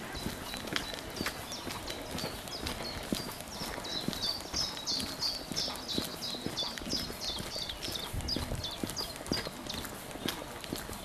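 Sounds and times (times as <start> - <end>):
footsteps on paved path: 0.0 - 11.0.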